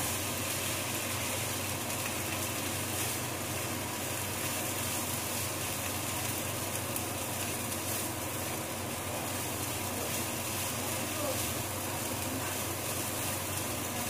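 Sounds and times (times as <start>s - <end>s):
rice sizzling in a skillet: 0.0s - 14.0s.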